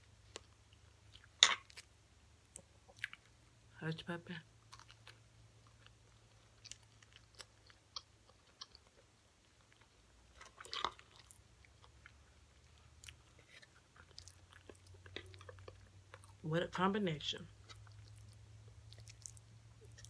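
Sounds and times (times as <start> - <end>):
chewing crunchy fried food: 0.0 - 3.7, 4.4 - 16.5, 17.5 - 20.0.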